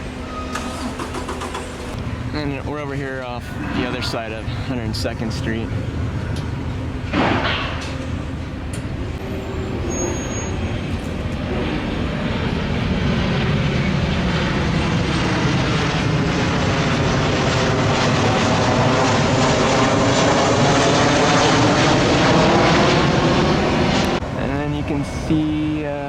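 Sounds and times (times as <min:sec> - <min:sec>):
airliner flying overhead: 0:00.0 - 0:26.0.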